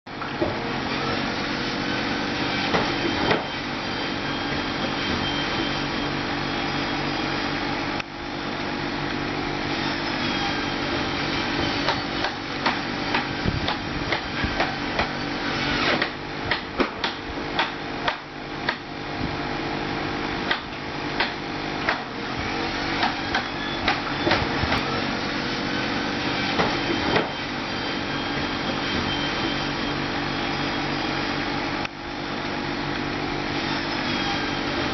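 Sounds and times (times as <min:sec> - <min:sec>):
digging tractor engine whining: 0:00.1 - 0:34.9.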